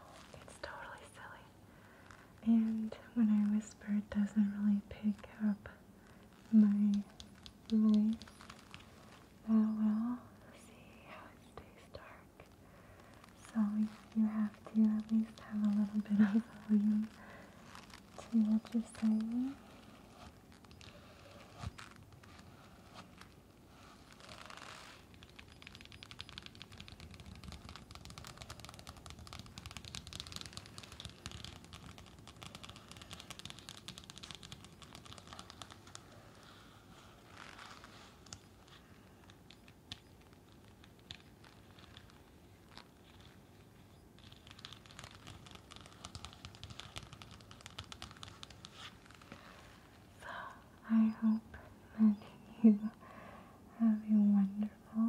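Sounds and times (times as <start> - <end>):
mask crinkling and scratching: 0.0 - 4.3, 5.0 - 10.1, 10.7 - 53.4.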